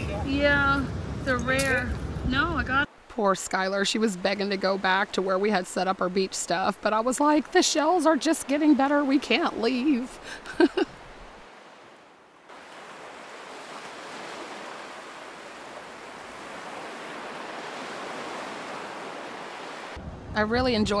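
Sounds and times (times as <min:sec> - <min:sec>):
ocean surf washing ashore: 0:00.0 - 0:21.0.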